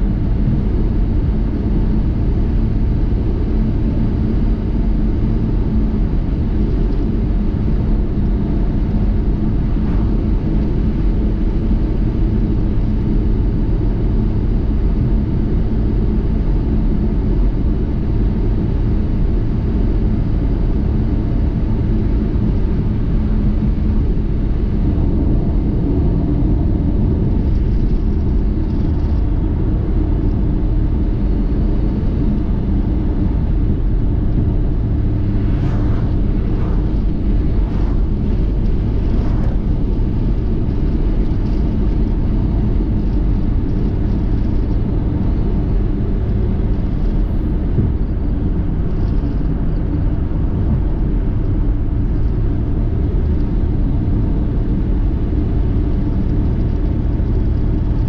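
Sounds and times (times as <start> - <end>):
road noise: 0.0 - 14.5, 18.4 - 53.1
car engine rumble: 0.0 - 58.0.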